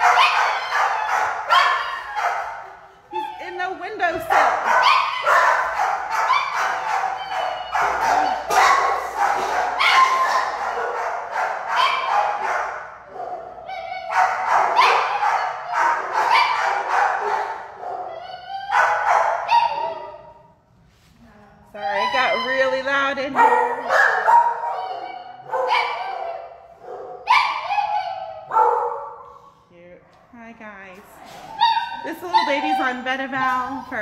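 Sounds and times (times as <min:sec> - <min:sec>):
dogs barking: 0:00.0 - 0:20.5, 0:21.9 - 0:29.5, 0:31.5 - 0:34.0.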